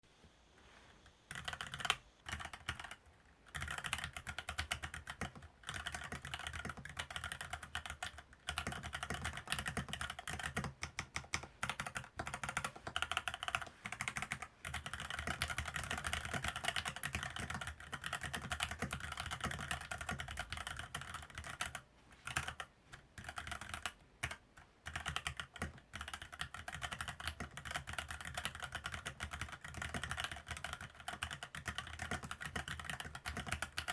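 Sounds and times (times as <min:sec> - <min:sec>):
keyboard typing: 0:01.3 - 0:33.9.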